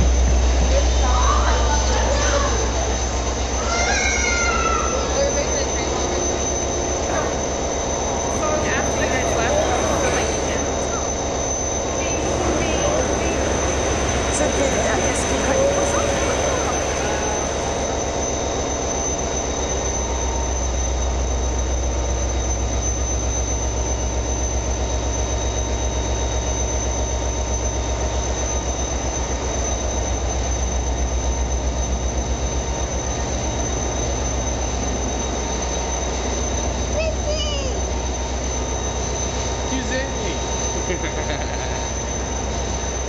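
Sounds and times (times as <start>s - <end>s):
train rumbling along rails: 0.0s - 20.6s, 28.3s - 43.0s.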